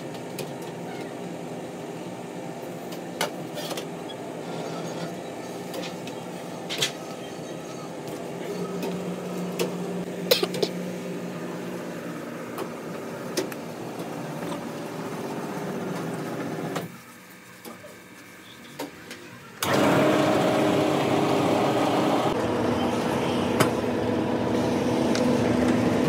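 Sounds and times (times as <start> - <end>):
press machinery whining: 0.0 - 17.0, 18.3 - 26.0
workshop machinery humming: 0.0 - 26.0.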